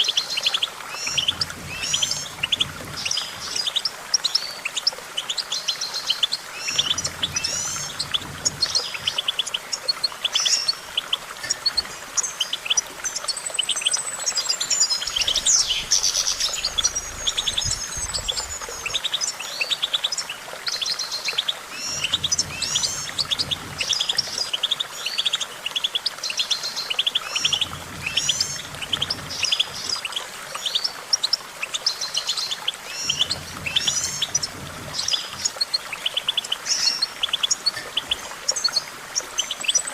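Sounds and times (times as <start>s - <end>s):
finch singing twittering trills: 0.3s - 39.9s.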